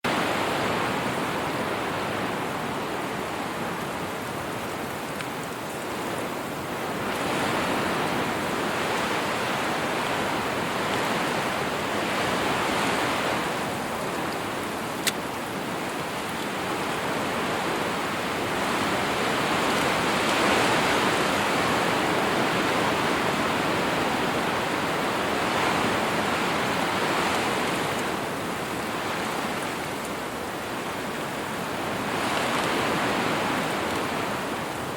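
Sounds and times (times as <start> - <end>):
wind gusting: 0.0 - 34.9.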